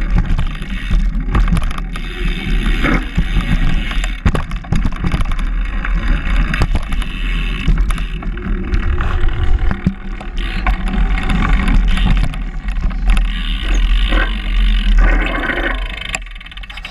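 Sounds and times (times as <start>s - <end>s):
wind noise on microphone: 0.0s - 14.4s
bike tyres rumbling on concrete: 0.0s - 16.6s
bike rattling clicks: 0.0s - 16.9s.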